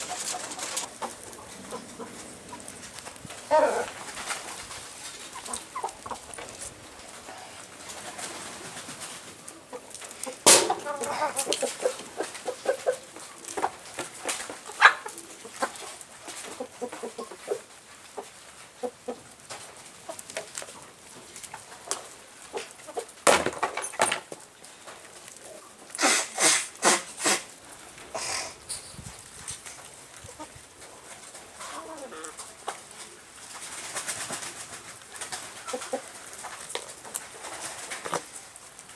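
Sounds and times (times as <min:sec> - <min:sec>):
chickens clucking: 0:00.0 - 0:23.2, 0:24.9 - 0:38.9.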